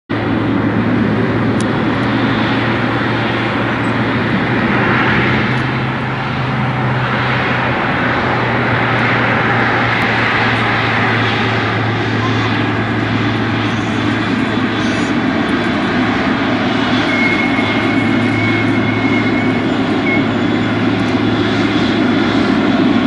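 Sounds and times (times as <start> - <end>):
jet engines rumbling: 0.1 - 23.0.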